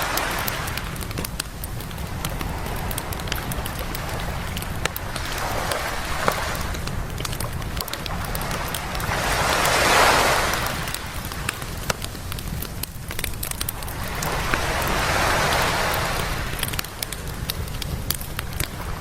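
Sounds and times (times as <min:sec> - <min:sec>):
campfire crackling and popping: 0:00.0 - 0:19.0
waves breaking on beach: 0:00.0 - 0:19.0.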